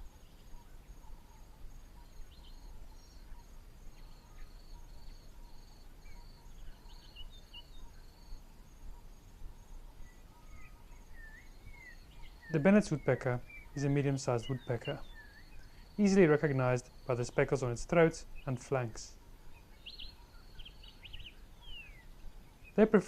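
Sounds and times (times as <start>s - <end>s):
insect chirping rhythmically: 0.0s - 23.0s.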